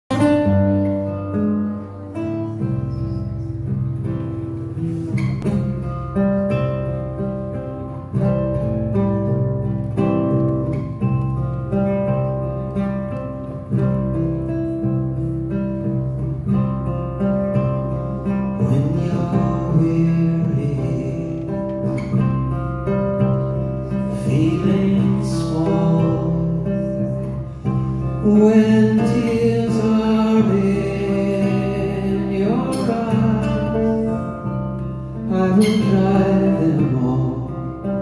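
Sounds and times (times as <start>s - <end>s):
acoustic guitar chords: 0.0s - 38.0s.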